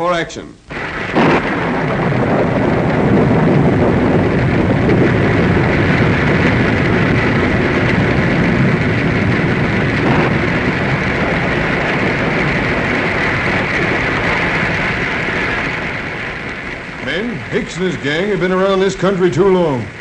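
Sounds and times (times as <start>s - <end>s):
rushing rain and wind: 0.6s - 20.0s.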